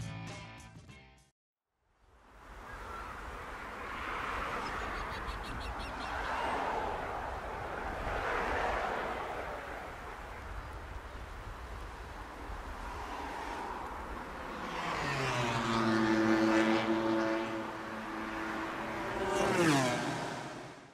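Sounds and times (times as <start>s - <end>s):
motor vehicle passing: 2.4s - 20.9s.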